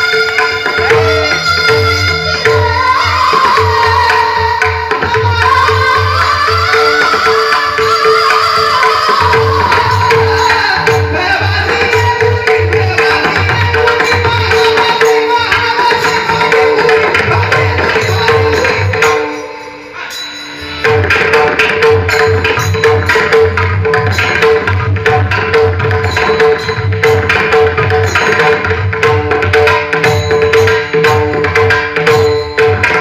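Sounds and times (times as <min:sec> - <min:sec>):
hand drum rhythm: 0:00.0 - 0:19.7, 0:20.7 - 0:33.0.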